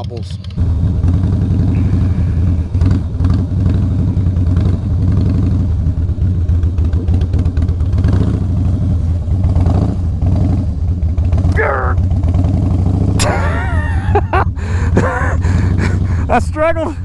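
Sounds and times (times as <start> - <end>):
motorcycle engine rumbling: 0.6 - 17.0.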